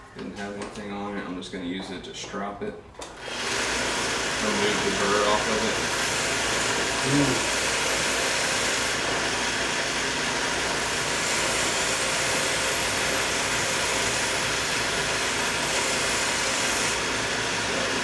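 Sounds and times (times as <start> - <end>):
belt grinder running: 3.2 - 18.0.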